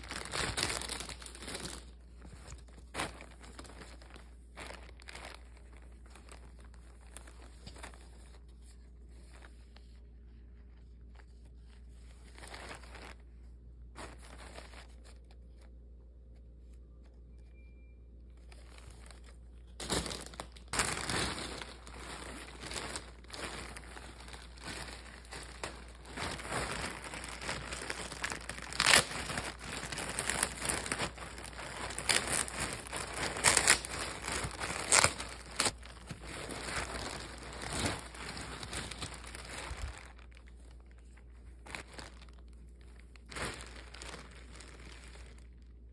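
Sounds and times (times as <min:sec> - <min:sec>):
plastic bag crinkling: 0:00.0 - 0:15.8, 0:18.4 - 0:45.9.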